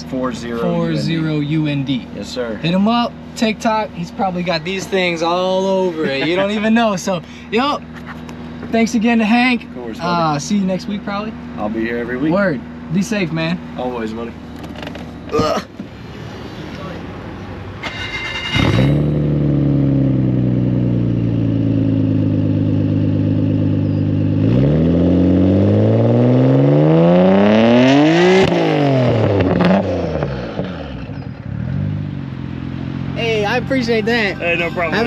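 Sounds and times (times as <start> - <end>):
car engine starting and revving: 0.0 - 35.0.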